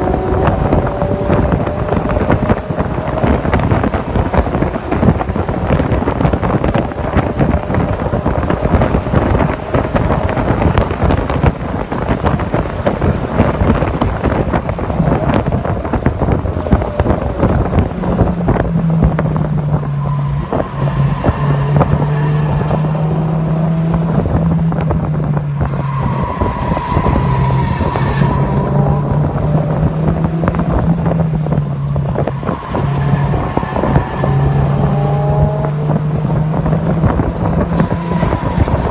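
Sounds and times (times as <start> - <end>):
car engine drone: 0.0 - 38.9
wind buffeting microphone: 0.0 - 38.9.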